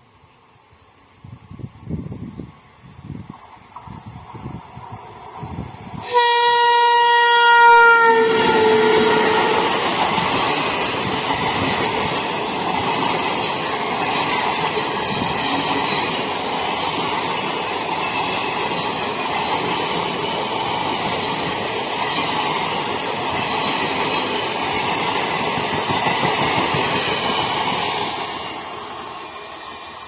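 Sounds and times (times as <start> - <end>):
train wheels rushing on rails: 0.0 - 30.0.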